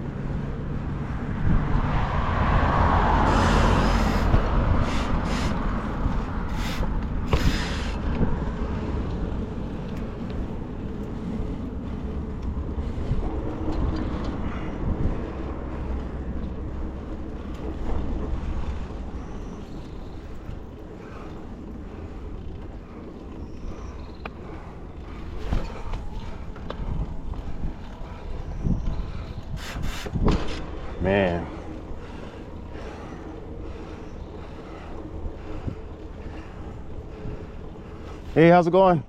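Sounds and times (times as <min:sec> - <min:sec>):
wind rumbling on microphone: 0:00.0 - 0:38.9
road noise: 0:00.0 - 0:39.0.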